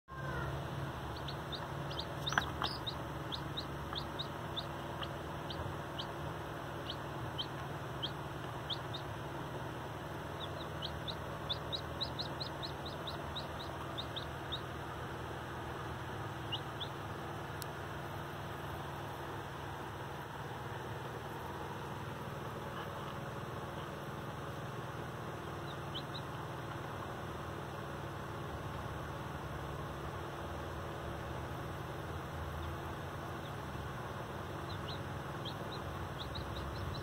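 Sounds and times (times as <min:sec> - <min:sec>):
baby chicks peeping: 0:00.1 - 0:37.0.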